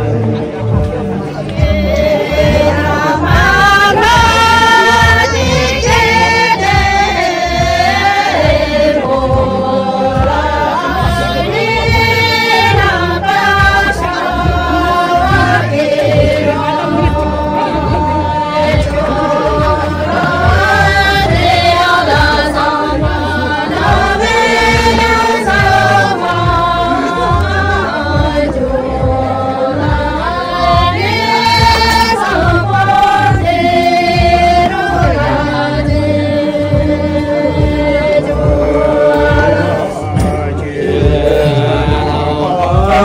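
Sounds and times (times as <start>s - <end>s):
group singing: 0.0s - 43.0s
steady low beat: 0.0s - 43.0s.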